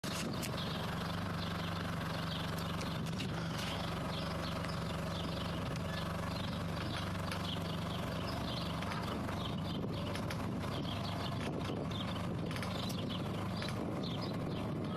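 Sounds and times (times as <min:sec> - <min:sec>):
low engine hum: 0:00.0 - 0:14.9.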